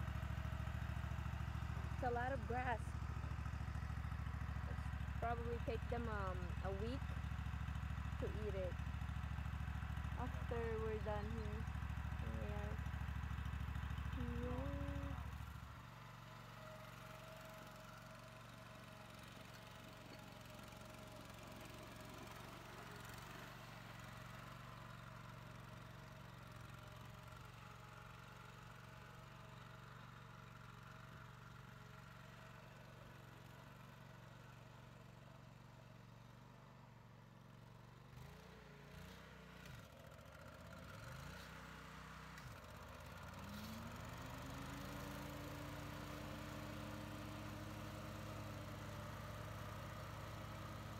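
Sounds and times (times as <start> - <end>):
riding mower engine running: 0.0 - 50.9.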